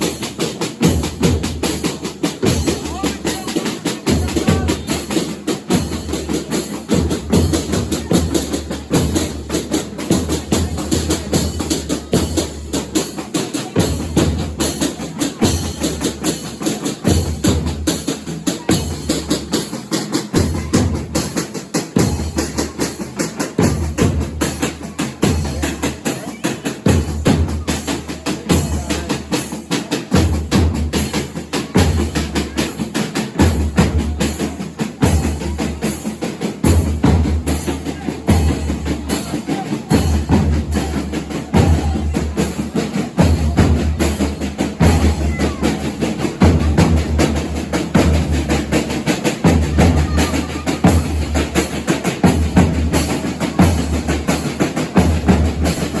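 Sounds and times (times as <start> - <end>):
drums playing steady rhythm: 0.0 - 56.0.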